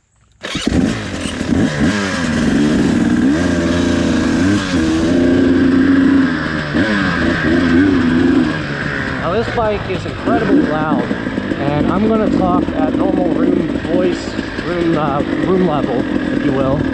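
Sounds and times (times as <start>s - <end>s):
dirt bike engine revving: 0.4s - 16.9s.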